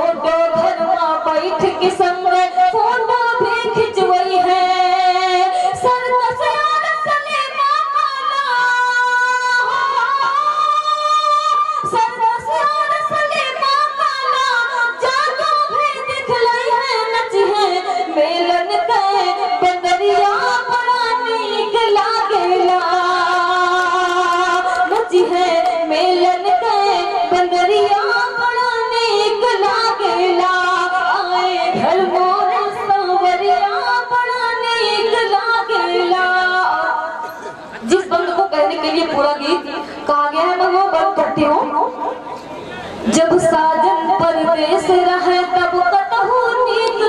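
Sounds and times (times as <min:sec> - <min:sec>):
woman singing into microphone: 0:00.0 - 0:42.2, 0:43.0 - 0:47.0.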